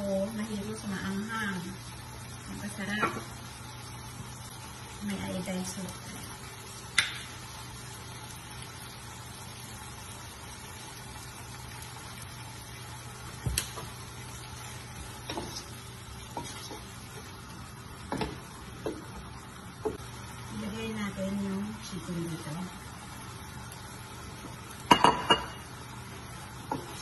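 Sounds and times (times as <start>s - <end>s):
shrimp sizzling in a pot: 0.0s - 27.0s.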